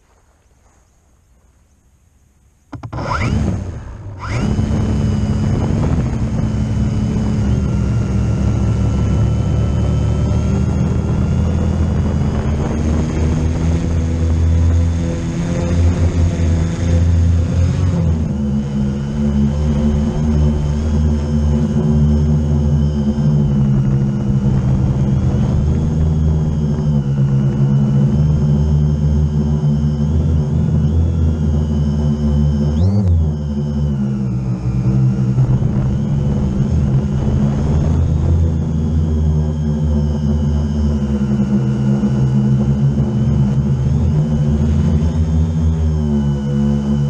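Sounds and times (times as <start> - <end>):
drone propellers whirring: 2.6 - 47.0.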